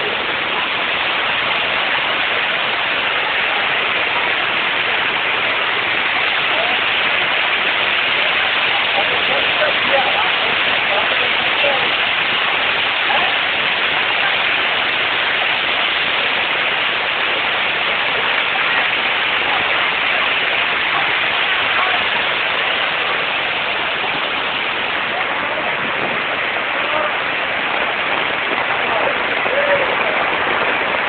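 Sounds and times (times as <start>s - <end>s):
floodwater rushing down street: 0.0s - 31.0s
heavy rain: 0.0s - 31.0s.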